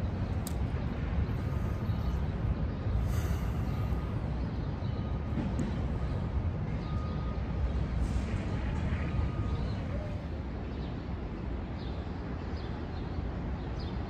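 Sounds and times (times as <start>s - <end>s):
low city background rumble: 0.0s - 14.0s.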